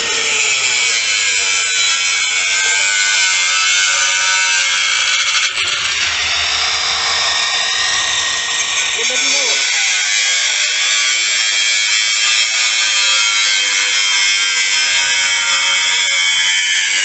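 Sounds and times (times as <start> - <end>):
angle grinder cutting metal: 0.0 - 17.0.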